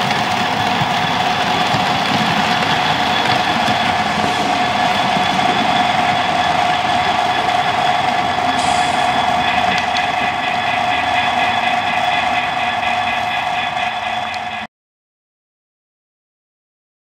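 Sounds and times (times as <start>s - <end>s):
locomotive running sounds from speakers: 0.0s - 14.7s.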